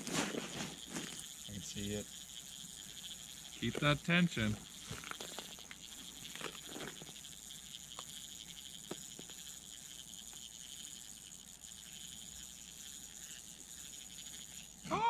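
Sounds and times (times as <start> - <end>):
fishing reel whirring: 0.0 - 15.0.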